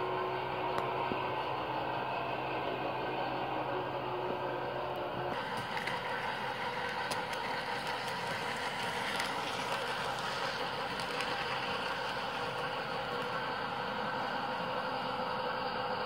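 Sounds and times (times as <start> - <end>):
model train motors and wheels: 0.0 - 16.0.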